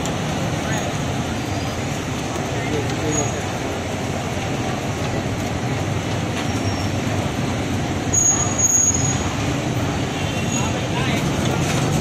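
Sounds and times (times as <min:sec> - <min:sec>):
busy shop din: 0:00.0 - 0:12.0.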